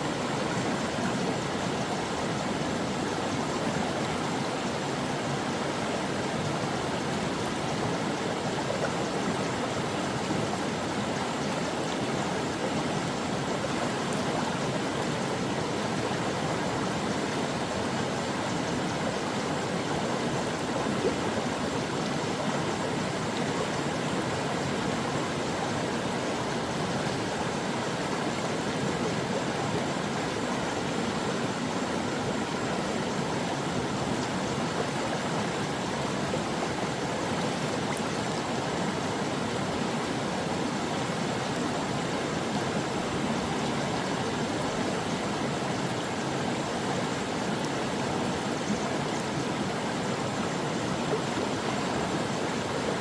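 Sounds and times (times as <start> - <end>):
brook water flowing: 0.0 - 53.0.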